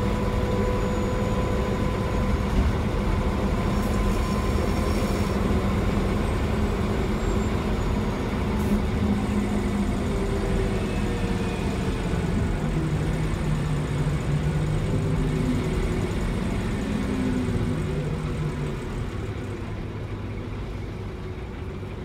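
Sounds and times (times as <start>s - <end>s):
diesel bus engine: 0.0s - 22.0s
road noise: 0.0s - 22.0s.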